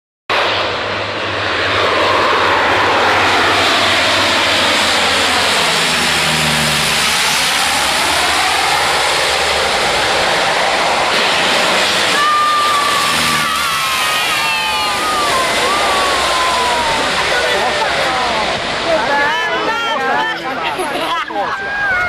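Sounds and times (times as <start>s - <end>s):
plane passing low overhead: 0.3s - 22.0s.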